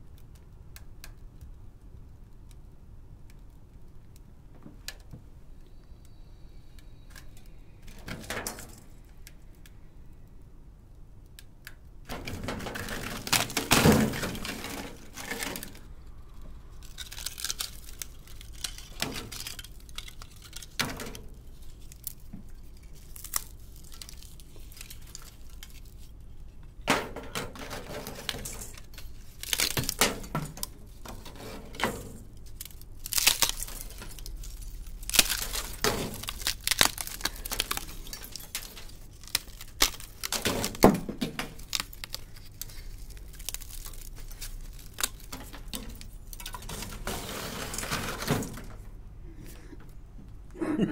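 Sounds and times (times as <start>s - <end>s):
oxide scale crackling: 0.0s - 49.0s.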